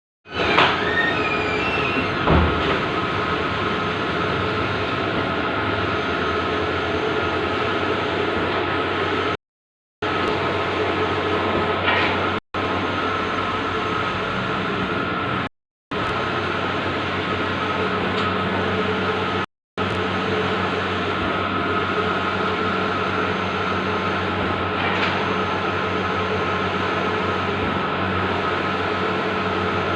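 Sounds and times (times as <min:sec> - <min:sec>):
printer mechanical whir: 0:00.3 - 0:09.4, 0:10.0 - 0:29.9.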